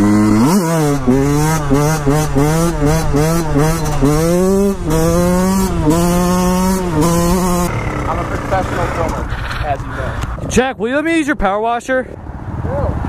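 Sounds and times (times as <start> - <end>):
motorcycle engine revving: 0.0 - 10.6, 12.1 - 13.0.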